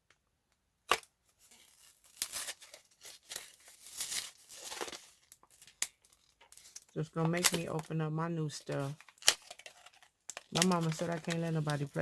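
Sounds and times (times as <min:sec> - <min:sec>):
packaging tearing and crinkling: 0:00.9 - 0:07.9, 0:08.6 - 0:12.0.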